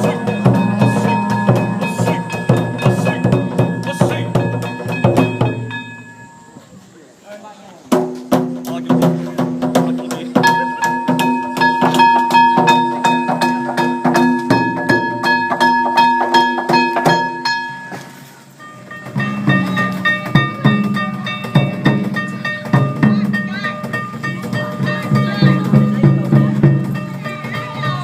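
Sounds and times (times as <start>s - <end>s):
drums beaten in fast rhythm: 0.0s - 6.6s, 7.8s - 28.0s
ringing tones: 0.0s - 6.9s, 10.4s - 28.0s.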